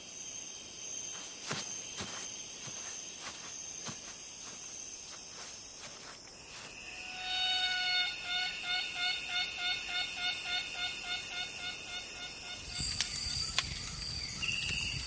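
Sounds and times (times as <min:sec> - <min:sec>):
high insect whine: 0:00.0 - 0:15.0.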